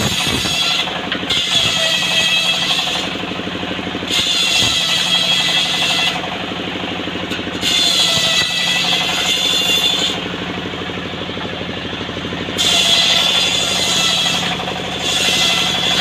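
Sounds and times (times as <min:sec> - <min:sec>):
circular saw blade whining: 0:00.0 - 0:16.0
engine running steadily: 0:00.0 - 0:16.0.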